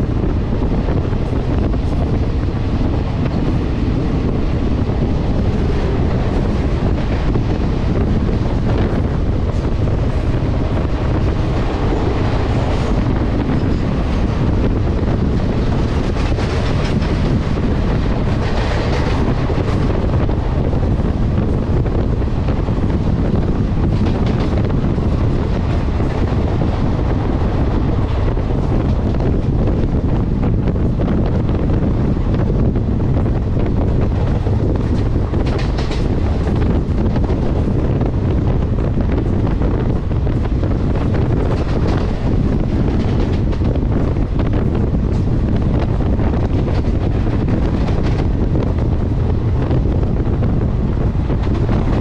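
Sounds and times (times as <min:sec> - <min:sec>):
train rumbling on track: 0:00.0 - 0:52.0
wind buffeting microphone: 0:00.0 - 0:52.0.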